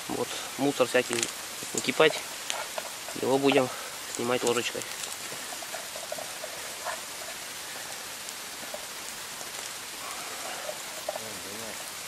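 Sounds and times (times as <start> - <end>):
campfire hissing: 0.0 - 12.0
water boiling in a tin can: 0.0 - 12.0.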